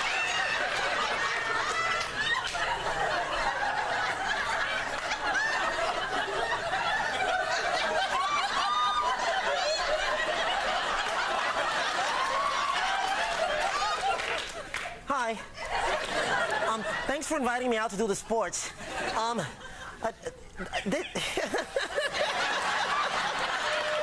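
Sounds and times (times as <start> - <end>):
studio audience laughing: 0.0 - 17.5, 18.3 - 24.0.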